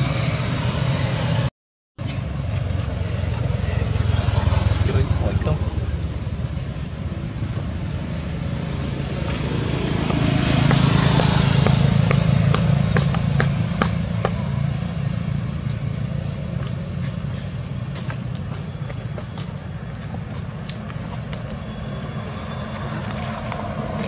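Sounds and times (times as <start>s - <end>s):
vehicle passing on road: 0.0s - 24.0s.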